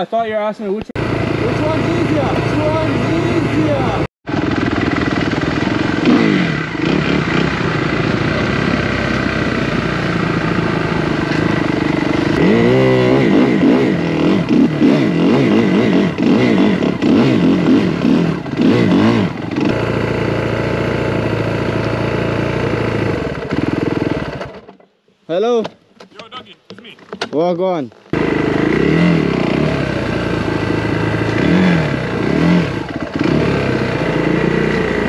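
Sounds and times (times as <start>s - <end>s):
dirt bike engine revving: 1.0s - 24.7s, 28.1s - 35.0s.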